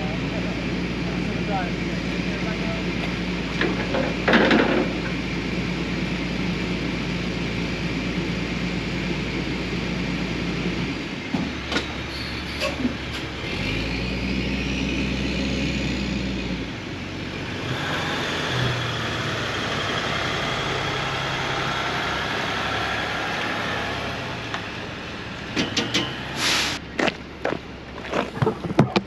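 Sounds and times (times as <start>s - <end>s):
pickup truck passing: 0.0s - 28.7s
low engine hum: 0.0s - 29.0s.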